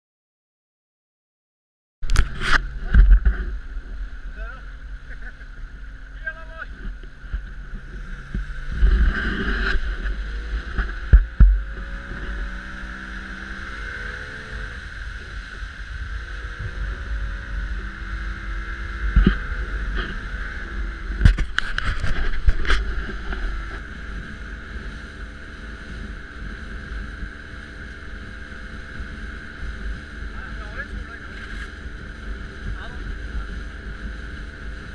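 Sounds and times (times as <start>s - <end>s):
boat motor droning: 2.0s - 34.9s
wind rumble on microphone: 2.0s - 34.9s.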